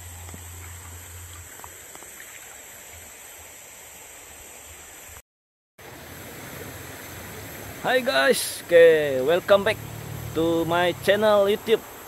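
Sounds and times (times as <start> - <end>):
river water flowing: 0.0 - 5.2, 5.8 - 12.0.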